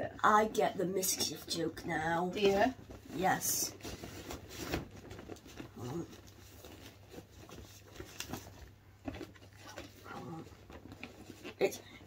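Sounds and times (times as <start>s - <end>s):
gift bag rustling: 1.1s - 12.0s.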